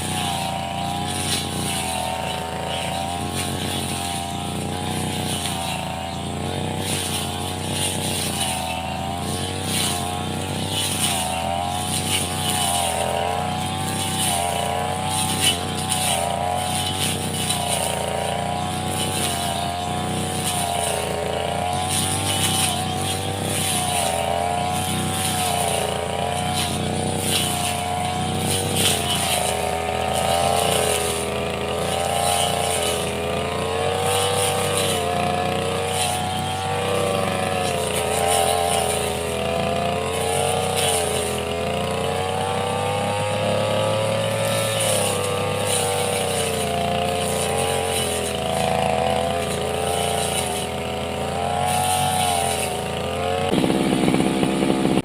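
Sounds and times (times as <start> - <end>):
brush cutter engine running: 0.0 - 55.0.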